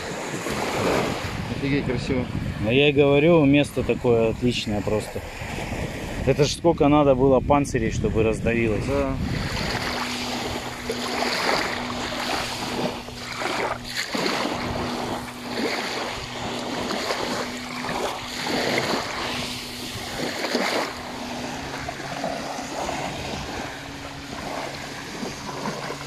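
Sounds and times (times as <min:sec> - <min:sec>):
sea waves washing on shore: 0:00.0 - 0:06.6, 0:08.0 - 0:26.0
steady low hum: 0:00.0 - 0:26.0
wind buffeting microphone: 0:00.0 - 0:26.0.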